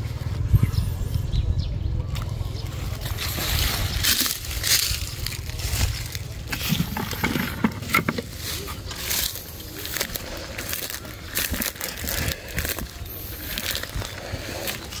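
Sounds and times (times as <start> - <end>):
foliage brushing: 2.2 - 15.0
plastic bags crinkling: 2.7 - 15.0.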